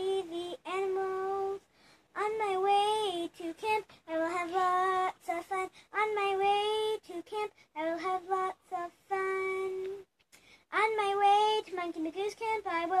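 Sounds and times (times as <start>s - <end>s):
boy singing unaccompanied: 0.0s - 10.1s, 10.7s - 13.0s.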